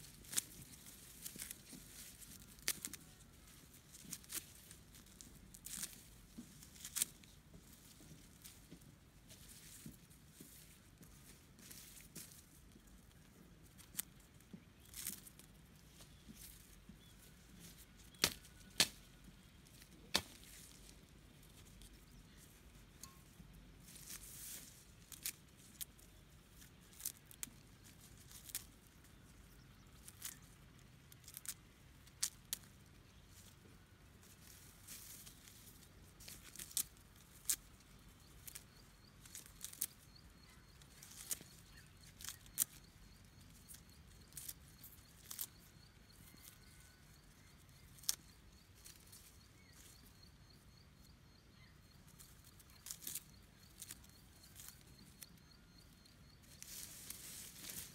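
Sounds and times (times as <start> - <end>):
faint high chirp: 0.0 - 57.9
low background hum: 0.0 - 57.9.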